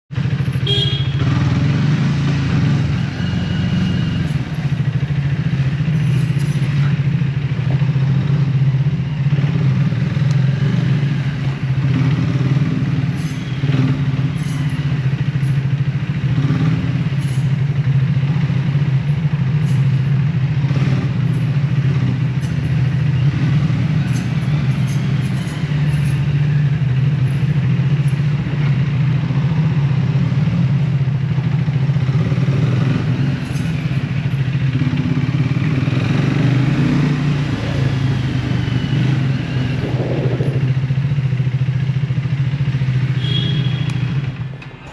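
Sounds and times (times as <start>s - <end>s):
motorcycle engine running: 0.1s - 44.9s.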